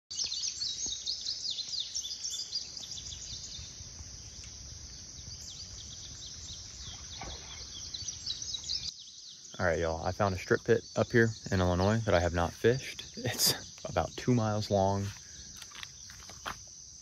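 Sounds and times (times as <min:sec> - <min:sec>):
birds chirping and singing: 0:00.1 - 0:16.6.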